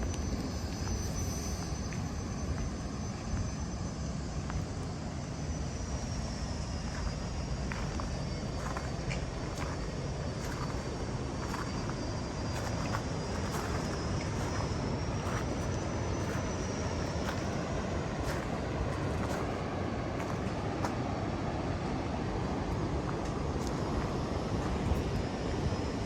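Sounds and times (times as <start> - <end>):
thin high whine: 0.0 - 26.0.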